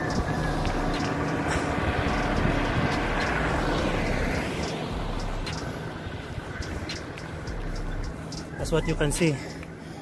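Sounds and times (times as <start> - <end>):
vehicle passing on road: 0.0 - 10.0.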